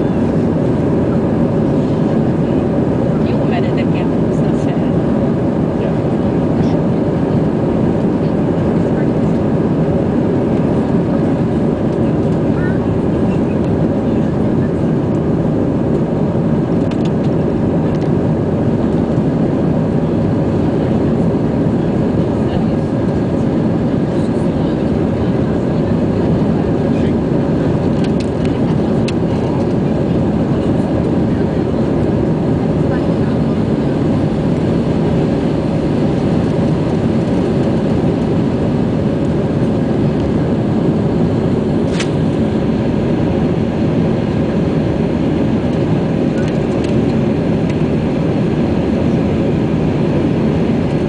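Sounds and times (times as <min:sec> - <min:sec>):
airplane cabin engine roar: 0:00.0 - 0:51.0.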